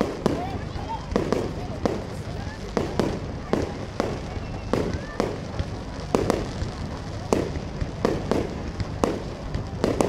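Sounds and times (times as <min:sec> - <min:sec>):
firework shells bursting: 0:00.0 - 0:10.0.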